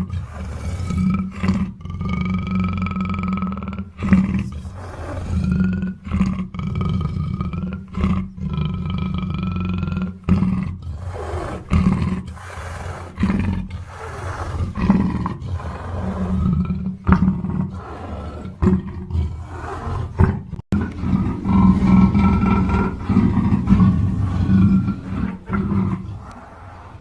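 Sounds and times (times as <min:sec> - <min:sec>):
panther roaring and growling: 0:00.0 - 0:27.0.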